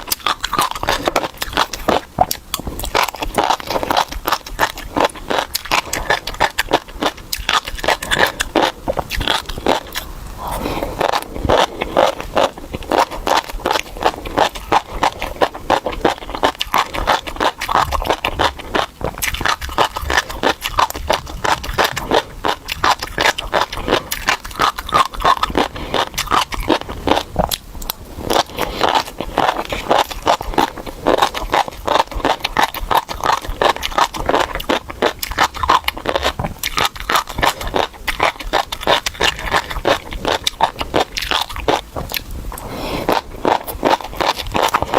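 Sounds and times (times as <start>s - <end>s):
chewing crunchy fish roe: 0.0s - 44.9s.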